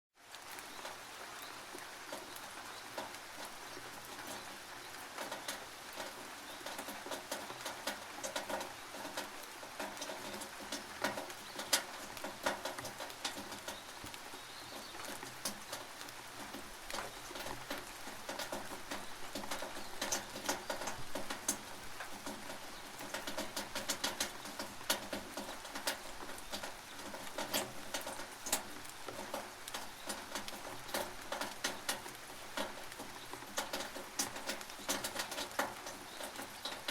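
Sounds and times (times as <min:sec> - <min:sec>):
rain hissing: 0:00.3 - 0:36.9.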